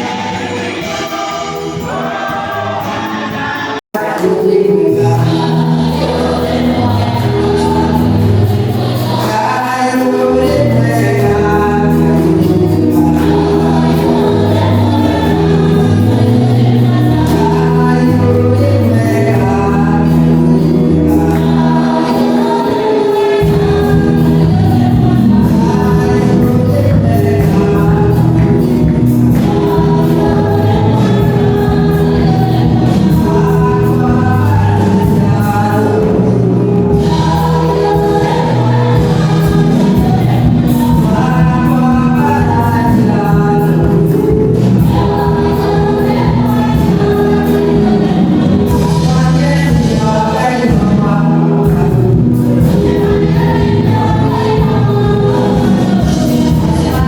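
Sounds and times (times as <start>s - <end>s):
gospel choir singing: 0.0s - 57.0s
stepping bass line: 0.0s - 57.0s.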